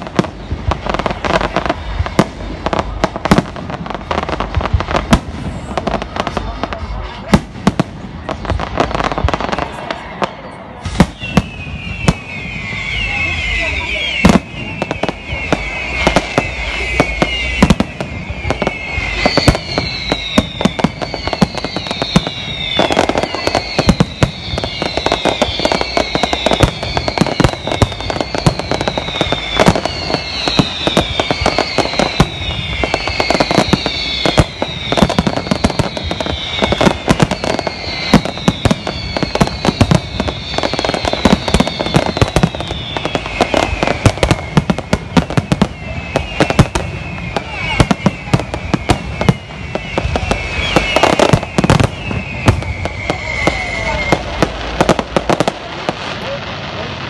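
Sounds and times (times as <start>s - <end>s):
fireworks bangs and crackling: 0.0s - 57.0s
high falling whistles: 8.3s - 56.4s.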